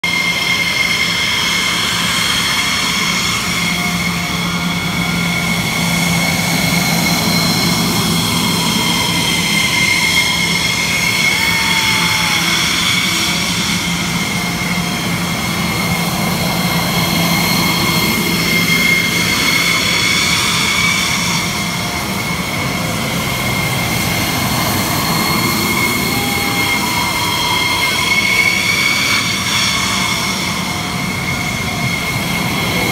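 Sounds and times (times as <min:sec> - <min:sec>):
jet engines whining: 0:00.0 - 0:32.9
low hum: 0:03.4 - 0:32.9.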